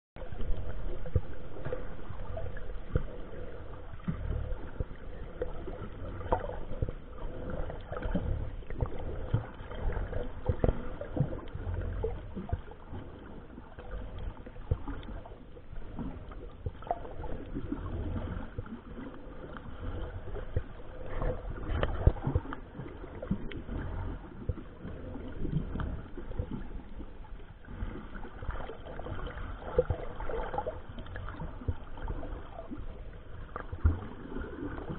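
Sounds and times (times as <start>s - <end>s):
faint steady hum: 0.2s - 34.9s
underwater clicks and crackles: 0.2s - 34.9s
underwater rumble of moving water: 0.2s - 34.9s.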